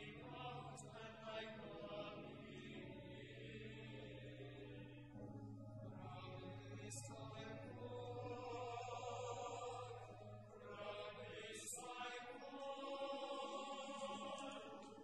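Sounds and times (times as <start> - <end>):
voices singing slow chant: 0.0 - 15.0.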